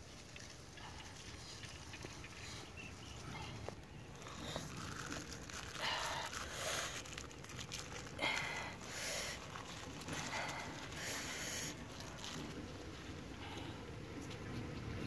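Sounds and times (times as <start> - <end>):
leaf rustling and crinkling: 0.0 - 13.7.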